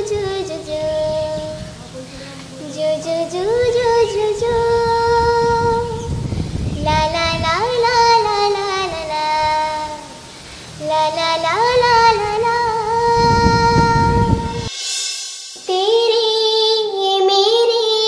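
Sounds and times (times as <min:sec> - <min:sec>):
girl singing unaccompanied: 0:00.0 - 0:14.7, 0:15.6 - 0:18.0.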